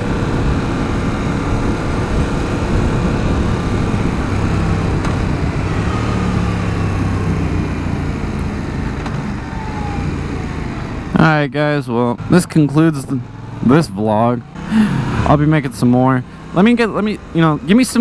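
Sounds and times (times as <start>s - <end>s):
motorcycle engine running: 0.0s - 11.4s, 12.0s - 18.0s.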